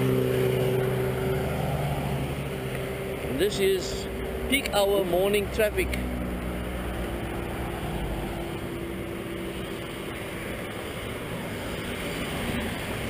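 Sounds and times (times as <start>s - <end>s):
cars driving past: 0.0s - 13.0s
engine hum: 0.0s - 13.0s.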